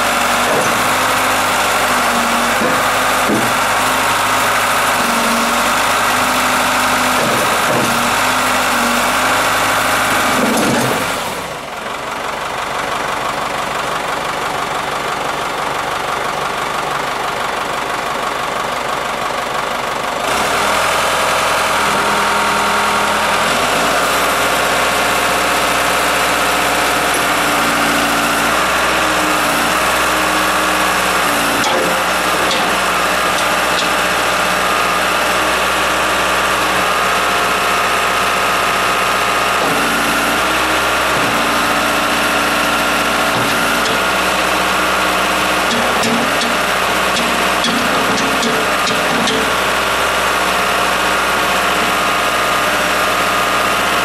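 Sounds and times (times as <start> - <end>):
diesel backhoe engine running: 0.0 - 54.0.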